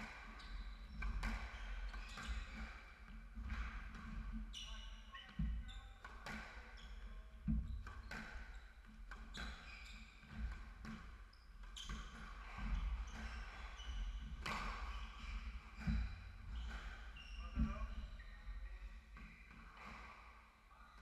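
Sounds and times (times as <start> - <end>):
shoes squeaking on wooden floor: 0.2 - 20.1.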